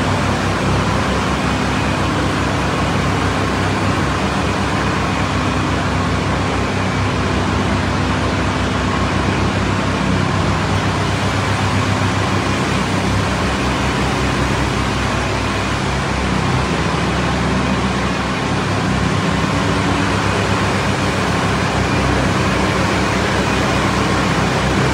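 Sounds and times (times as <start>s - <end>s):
pressure washer running: 0.0s - 24.9s.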